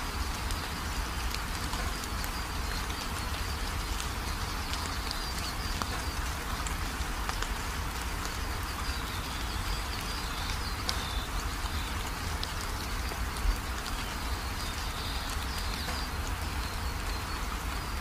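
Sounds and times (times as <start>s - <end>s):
rain-like hiss: 0.0s - 18.0s
light ticks: 0.3s - 8.4s, 9.9s - 16.7s.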